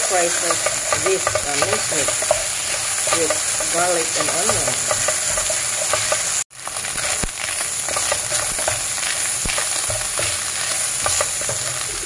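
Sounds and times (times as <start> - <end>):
meat sizzling in oil: 0.0 - 12.0
wooden spatula scraping pan: 0.0 - 12.0.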